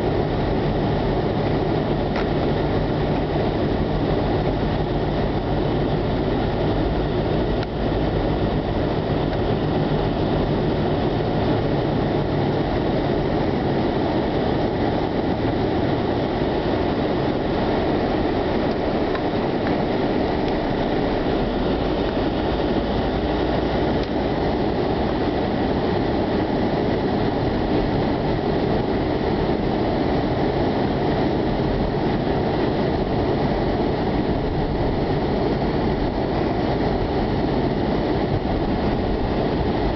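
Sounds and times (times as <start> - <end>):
blizzard wind blowing hard: 0.0 - 39.9.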